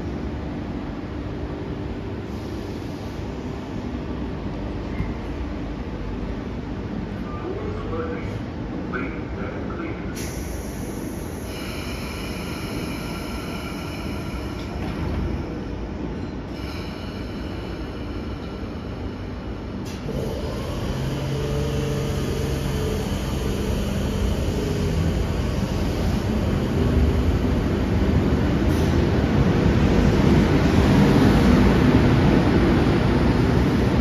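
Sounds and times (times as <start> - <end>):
electric train running on rails: 0.0 - 34.0.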